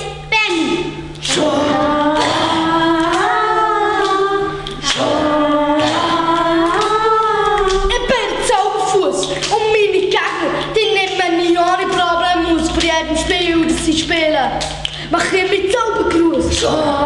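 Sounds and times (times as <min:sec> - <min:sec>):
voices singing: 0:00.0 - 0:17.0.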